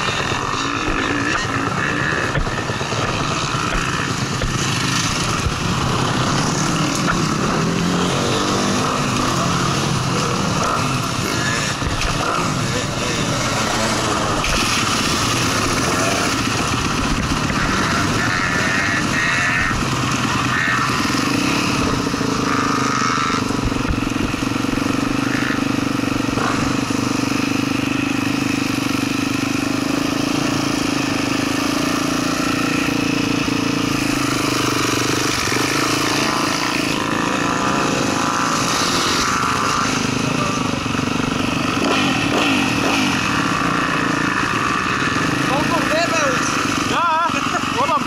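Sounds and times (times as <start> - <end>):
motorbike engine at low revs: 0.0 - 48.0.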